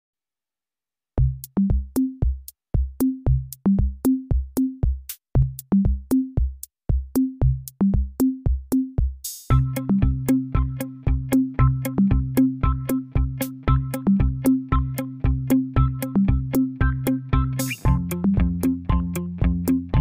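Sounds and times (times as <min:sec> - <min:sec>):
electronic drum machine beat: 0:01.2 - 0:20.0.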